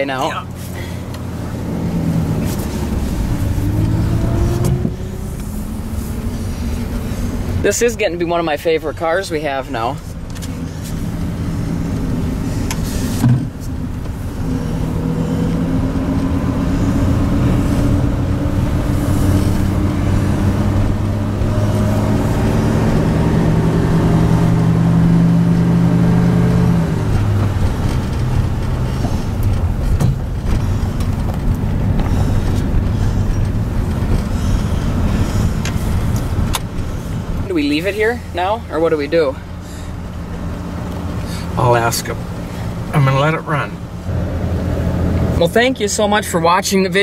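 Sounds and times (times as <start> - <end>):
car engine inside cabin: 0.0 - 47.0.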